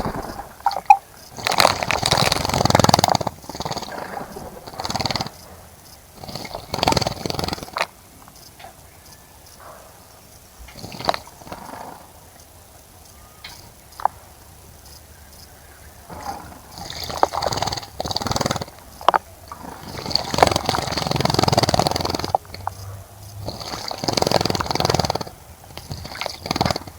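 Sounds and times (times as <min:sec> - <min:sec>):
birds splashing water: 0:00.0 - 0:08.1, 0:10.6 - 0:26.9.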